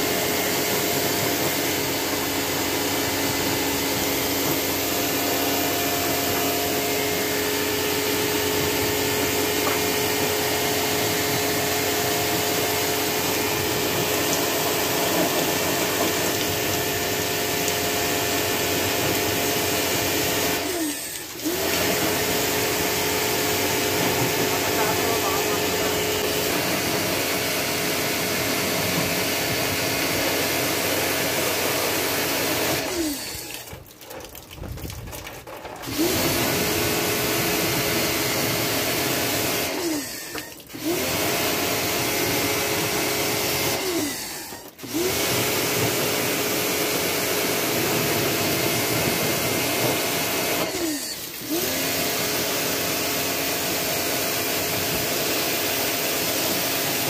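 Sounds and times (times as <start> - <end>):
pressure washer motor: 0.0 - 34.4, 35.8 - 57.0
water spraying: 0.0 - 57.0.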